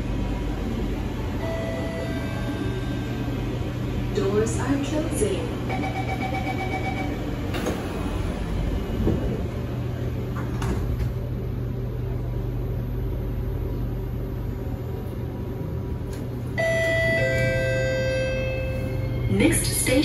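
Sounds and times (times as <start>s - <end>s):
low hum of stopped train: 0.0s - 20.0s.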